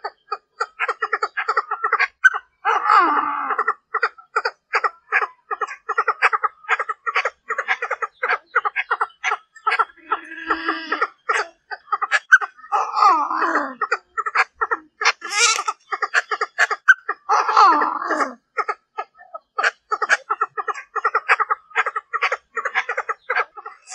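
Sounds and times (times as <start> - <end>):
francolin clucking and chattering: 0.0 - 23.9.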